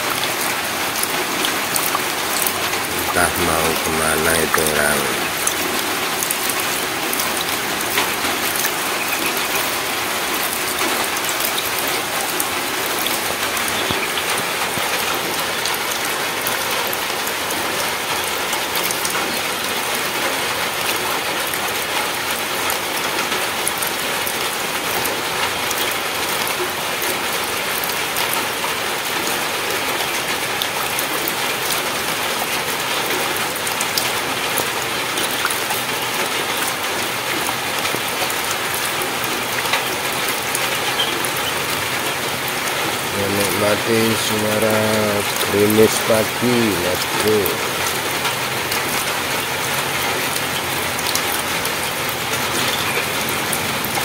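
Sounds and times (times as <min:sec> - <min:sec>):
drizzle falling on wet ground: 0:00.0 - 0:54.0.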